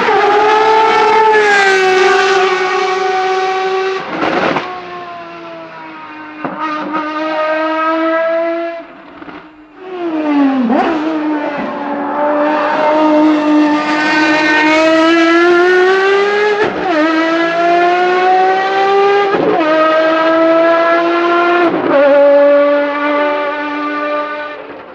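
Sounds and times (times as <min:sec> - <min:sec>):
car engine at full throttle: 0:00.0 - 0:24.9.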